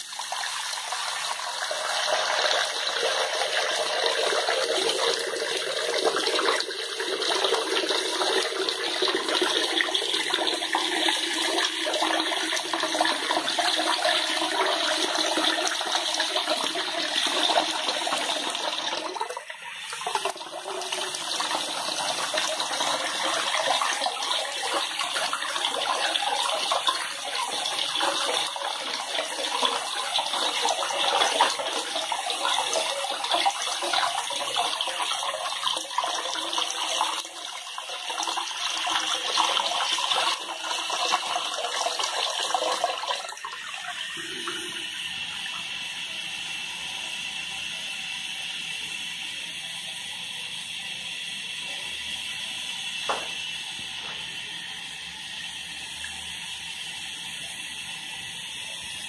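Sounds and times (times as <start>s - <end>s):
tap water pouring into basin: 0.0s - 50.5s, 51.6s - 59.0s.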